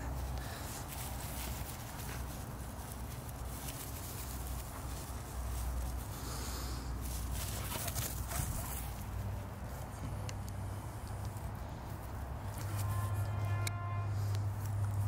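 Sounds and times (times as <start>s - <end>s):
paws scuffling on grass: 0.0s - 13.5s.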